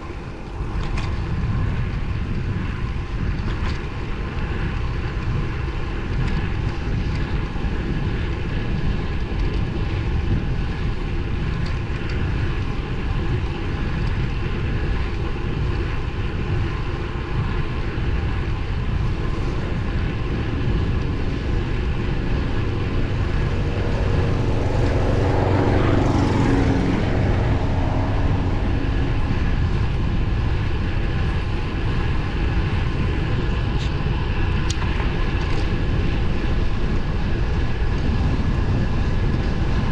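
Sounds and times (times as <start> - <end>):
bicycle tyre road noise: 0.0 - 39.9
passing vehicle hum: 0.0 - 39.9
wind rushing: 4.9 - 39.9.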